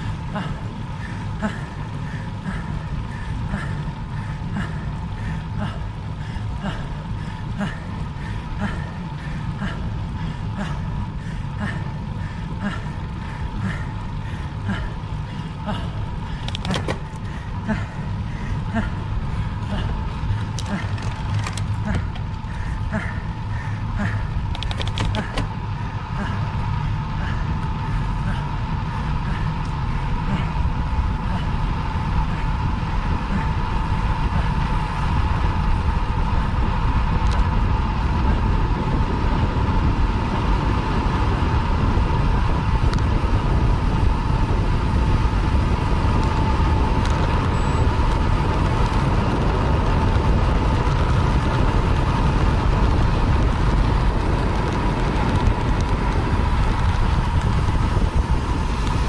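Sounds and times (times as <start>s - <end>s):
mid-pitched hum: 0.0s - 59.0s
road noise: 0.0s - 59.0s
wind rushing over microphone: 0.0s - 59.0s.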